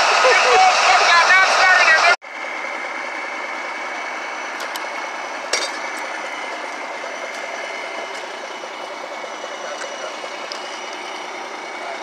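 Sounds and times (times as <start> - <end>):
diesel truck idling: 0.0 - 12.0.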